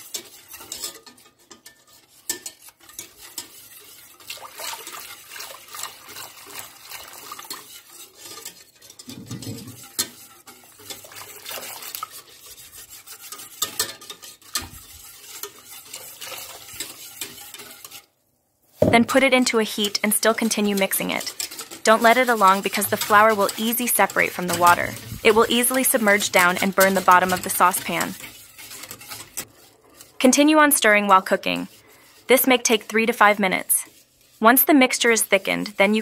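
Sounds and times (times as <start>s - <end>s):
whisk clicking against pot: 0.0s - 18.2s, 18.9s - 36.0s
whisk swishing batter: 0.0s - 36.0s.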